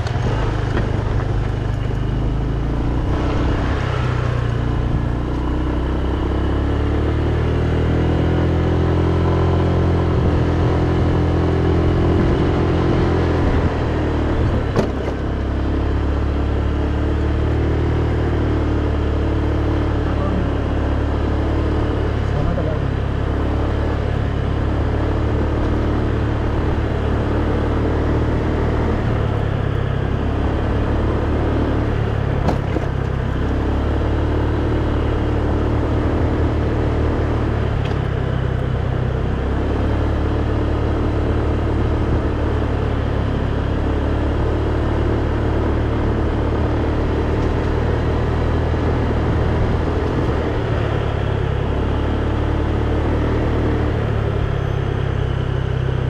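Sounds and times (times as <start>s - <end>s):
motorcycle engine running: 0.0s - 56.0s
road rumble: 0.0s - 56.0s.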